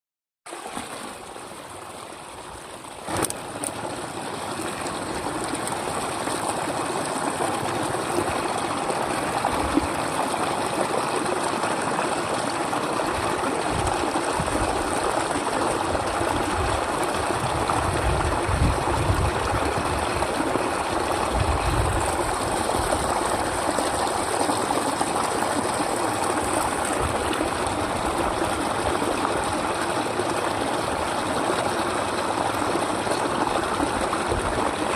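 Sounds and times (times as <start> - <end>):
running water: 0.5 - 34.9.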